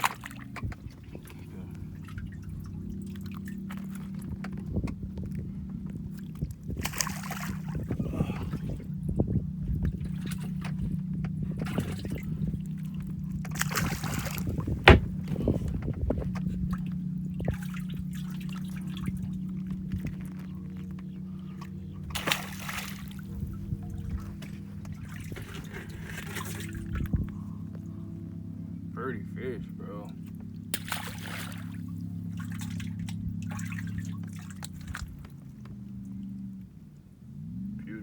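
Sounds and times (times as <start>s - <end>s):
water splashing and trickling: 0.0s - 28.8s, 29.4s - 36.6s
steady low hum: 0.0s - 38.0s.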